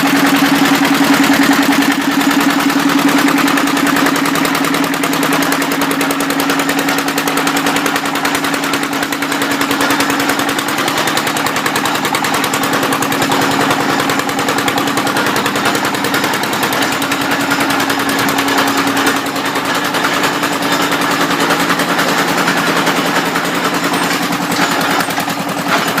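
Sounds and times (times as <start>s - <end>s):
engine-driven drilling machine: 0.0s - 26.0s.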